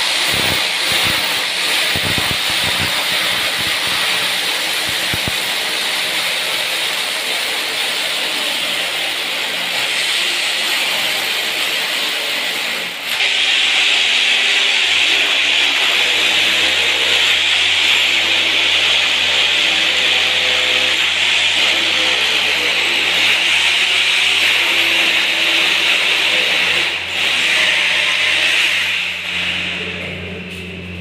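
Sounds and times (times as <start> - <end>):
electric drill boring into masonry: 0.0 - 30.2.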